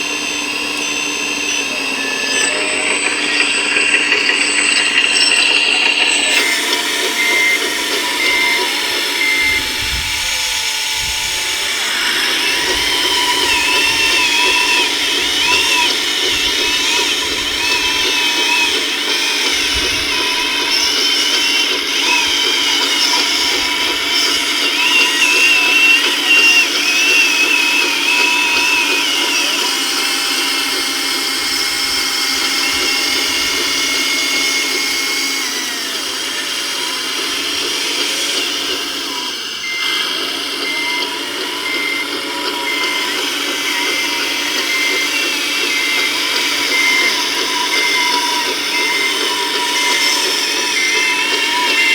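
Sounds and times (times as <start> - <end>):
electric motors whining: 0.0 - 51.9.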